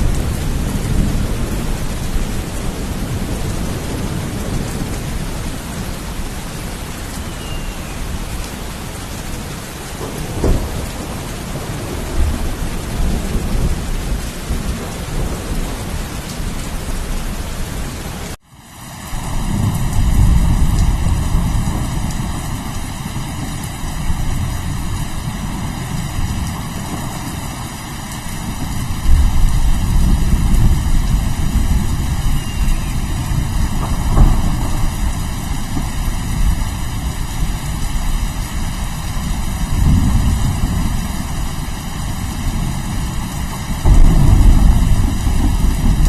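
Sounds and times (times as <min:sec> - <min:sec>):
rolling thunder: 0:00.0 - 0:07.1, 0:07.7 - 0:17.6, 0:19.2 - 0:46.0
steady rain: 0:00.0 - 0:46.0.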